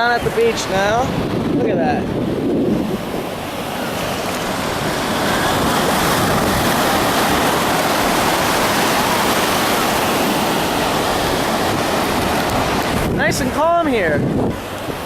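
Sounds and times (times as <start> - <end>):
gentle waves breaking on sand: 0.0 - 15.0.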